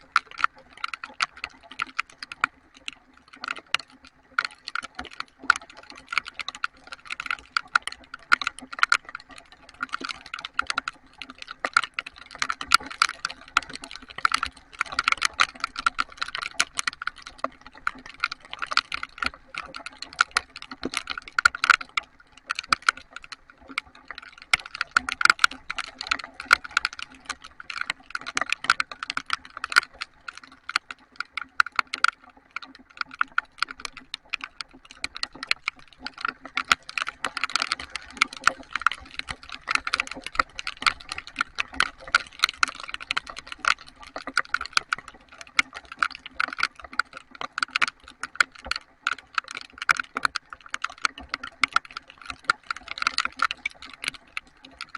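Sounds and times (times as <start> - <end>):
heavy rain drops ticking: 0.0 - 54.9.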